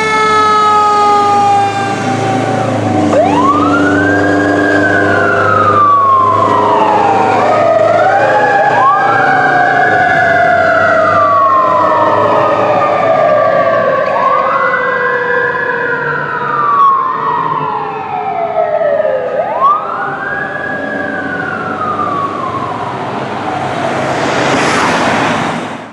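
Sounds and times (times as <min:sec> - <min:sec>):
second siren: 0:00.0 - 0:25.5
fire truck siren wailing: 0:00.0 - 0:25.9.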